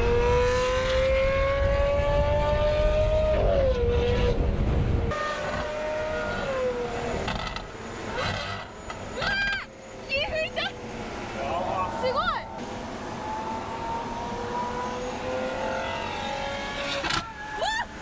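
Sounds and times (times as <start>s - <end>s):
sports car accelerating hard: 0.0s - 9.1s, 10.7s - 17.5s.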